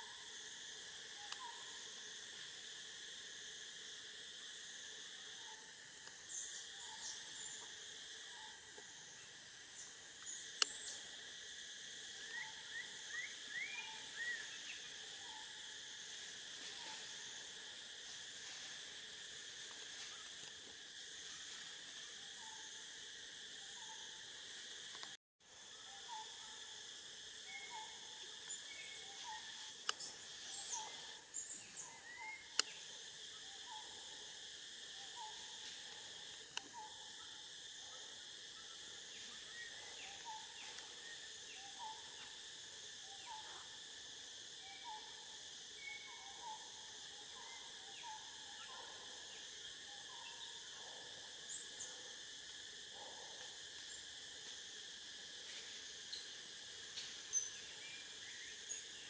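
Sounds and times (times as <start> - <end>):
chorus of forest insects: 0.0 - 59.0.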